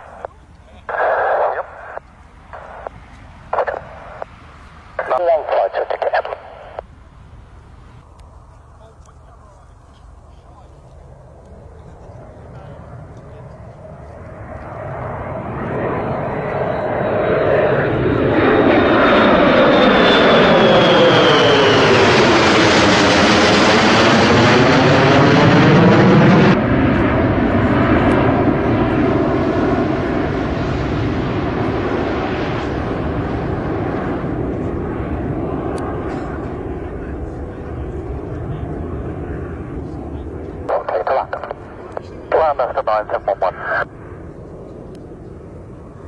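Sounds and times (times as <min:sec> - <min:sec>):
high jet whine: 0:00.0 - 0:46.0
jet engines flying past: 0:00.0 - 0:46.0.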